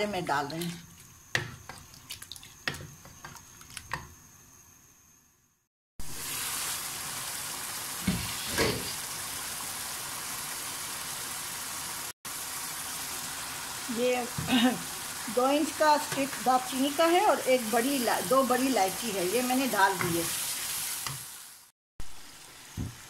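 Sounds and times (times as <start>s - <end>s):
curry sizzling in a wok: 0.0s - 5.1s, 6.0s - 23.0s.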